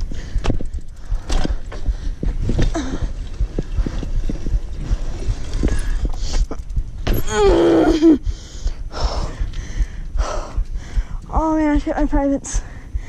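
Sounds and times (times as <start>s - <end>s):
bicycle rattling over bumpy ground: 0.0s - 13.0s.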